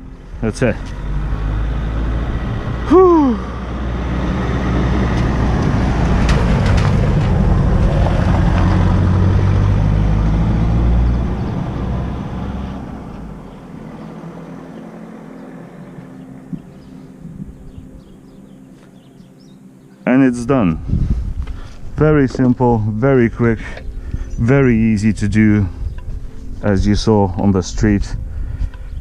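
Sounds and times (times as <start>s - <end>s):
motor vehicle passing: 0.0s - 19.6s, 20.2s - 29.0s.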